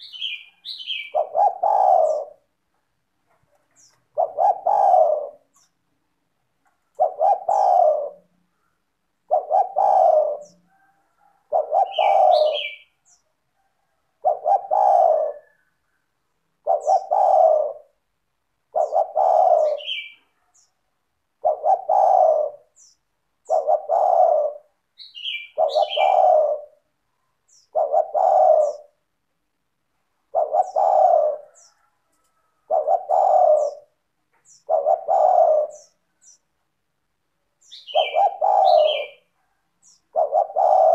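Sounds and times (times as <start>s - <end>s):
dove cooing: 0.0s - 5.8s, 6.6s - 20.7s, 21.3s - 29.2s, 30.2s - 36.4s, 37.6s - 40.9s
small birds chirping: 0.0s - 13.4s, 14.0s - 18.0s, 18.7s - 29.1s, 30.3s - 36.7s, 37.4s - 40.9s.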